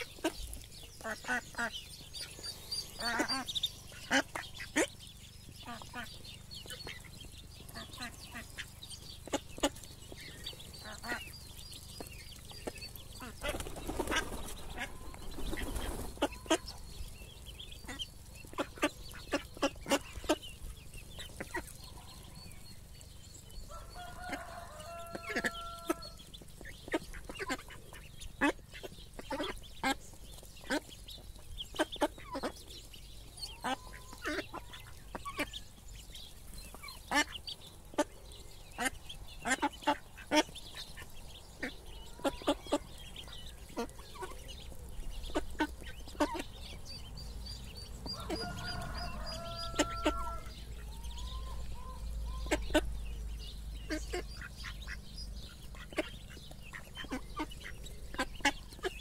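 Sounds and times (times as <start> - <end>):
ducklings peeping: 0.0 - 59.0
ducks pecking grain on ground: 0.0 - 59.0.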